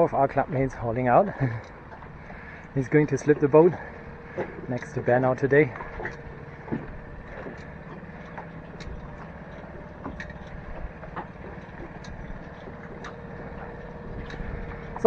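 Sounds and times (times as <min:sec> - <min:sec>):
engine idling: 0:00.0 - 0:15.0
faint clicks and knocks: 0:01.4 - 0:15.0.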